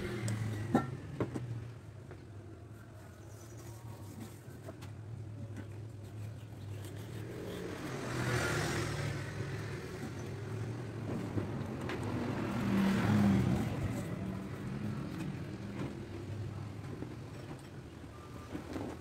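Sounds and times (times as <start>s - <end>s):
vehicles passing by: 0.0s - 19.0s.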